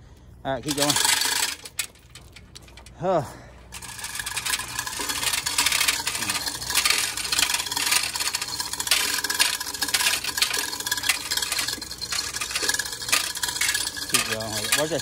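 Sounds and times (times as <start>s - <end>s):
hoist chain rattling: 0.5s - 3.0s, 3.7s - 15.0s.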